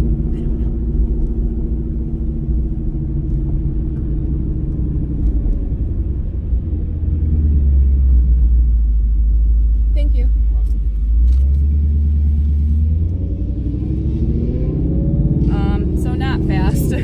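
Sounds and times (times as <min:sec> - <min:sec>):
car engine deep rumble: 0:00.0 - 0:17.0.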